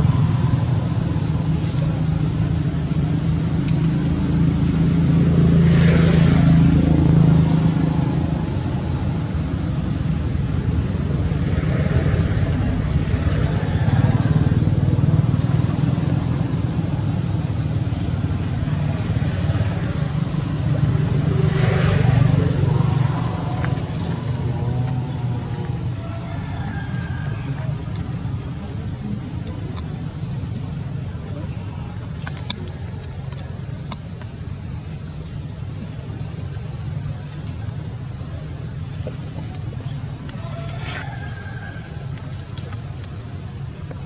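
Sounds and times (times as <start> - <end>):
vehicle engine hum: 0.0 - 44.0.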